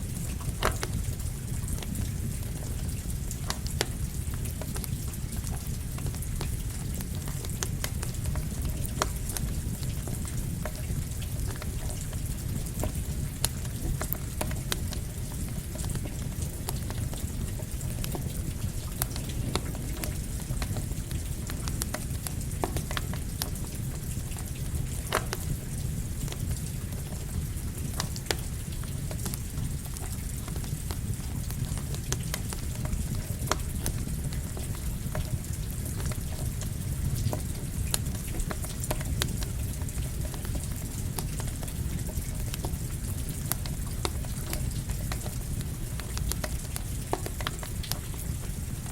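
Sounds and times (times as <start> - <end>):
steady rain: 0.0 - 48.9
campfire crackling and popping: 0.1 - 48.9.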